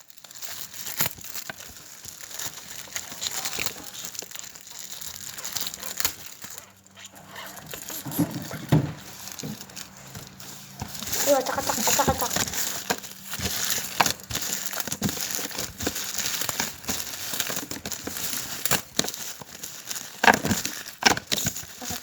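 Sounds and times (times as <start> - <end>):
plastic packaging crinkling: 0.0 - 22.0
plastic tearing: 0.0 - 22.0.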